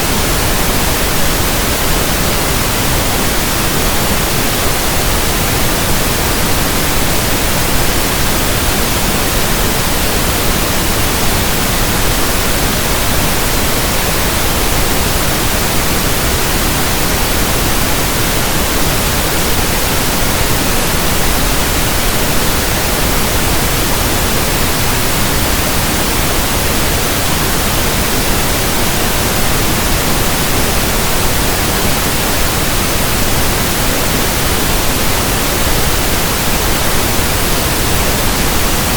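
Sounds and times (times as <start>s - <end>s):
pink noise hiss: 0.0s - 38.9s.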